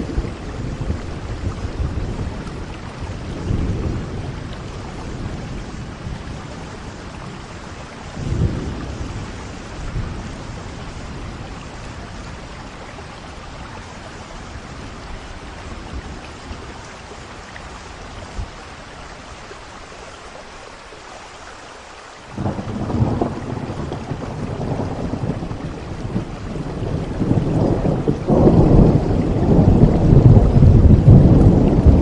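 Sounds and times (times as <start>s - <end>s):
thunder rumbling: 0.0s - 18.6s, 22.3s - 32.0s
steady rain falling: 0.0s - 32.0s.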